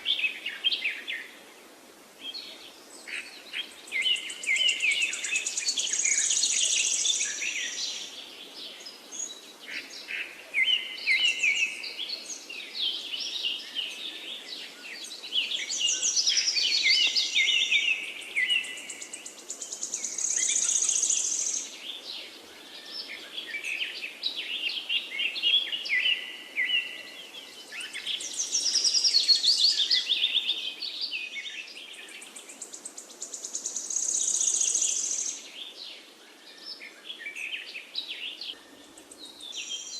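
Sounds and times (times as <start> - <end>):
songbirds chirping and warbling: 0.0 - 39.9.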